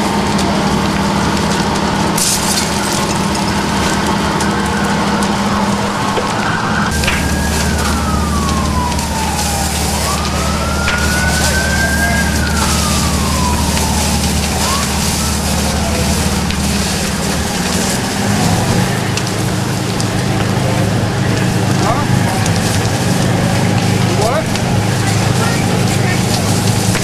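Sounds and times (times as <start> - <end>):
emergency siren wailing: 0.0 - 27.0
low engine drone: 0.0 - 27.0.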